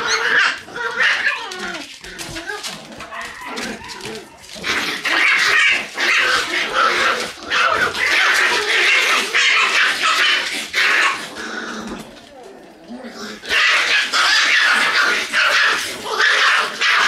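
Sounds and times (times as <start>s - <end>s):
puppies yapping and growling: 0.0s - 17.0s.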